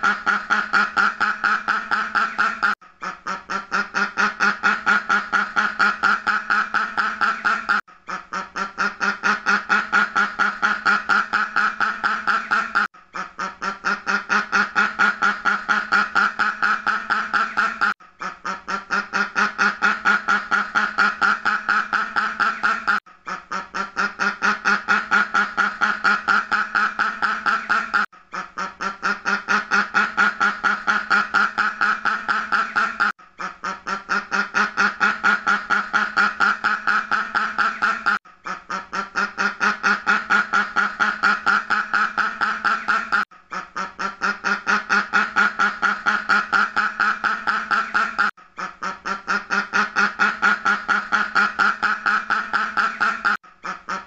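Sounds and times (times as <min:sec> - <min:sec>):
duck quacking: 0:00.0 - 0:54.0.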